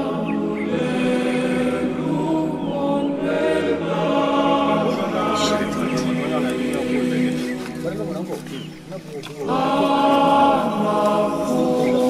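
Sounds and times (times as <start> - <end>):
choir singing sustained notes: 0.0 - 12.0.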